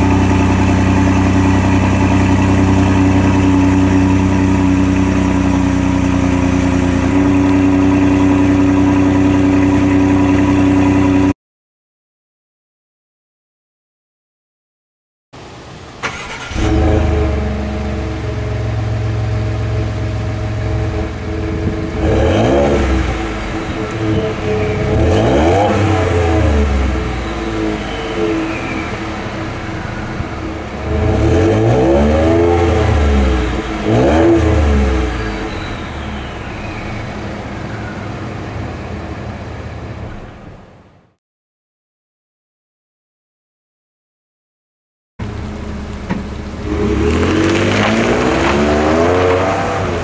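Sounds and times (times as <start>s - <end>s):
truck engine idling and revving: 0.0s - 11.4s, 15.4s - 41.2s, 45.2s - 50.0s.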